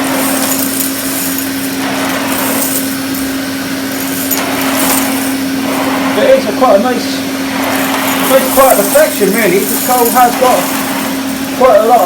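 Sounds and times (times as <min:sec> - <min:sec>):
vacuum cleaner running: 0:00.0 - 0:12.0
vacuum suction hiss: 0:00.0 - 0:12.0.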